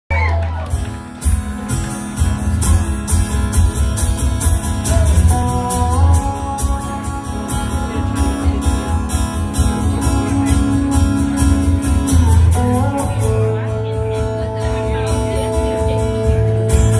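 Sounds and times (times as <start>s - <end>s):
acoustic guitar strumming: 0.7s - 16.9s.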